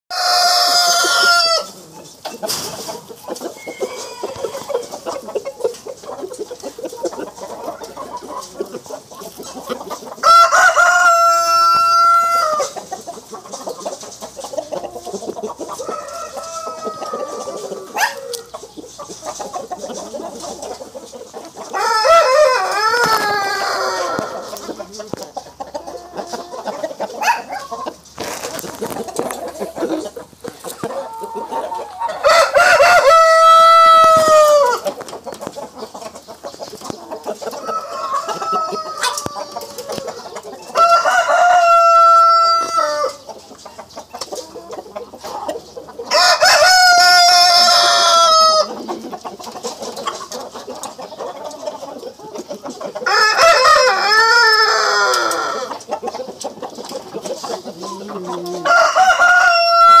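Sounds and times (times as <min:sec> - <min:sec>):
roosters crowing: 0:00.1 - 0:35.2, 0:36.4 - 0:43.4, 0:44.4 - 1:00.0
hens clucking: 0:00.1 - 1:00.0.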